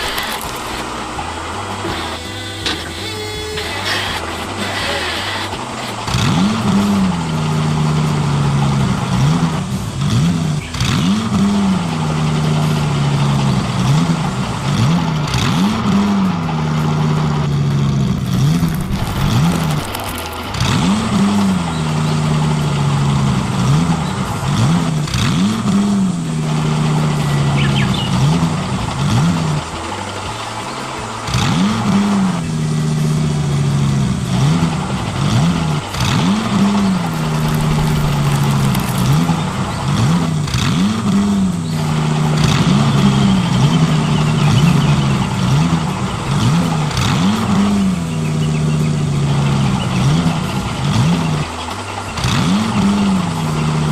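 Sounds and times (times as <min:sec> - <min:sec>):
model engine revving: 0:00.0 - 0:53.9.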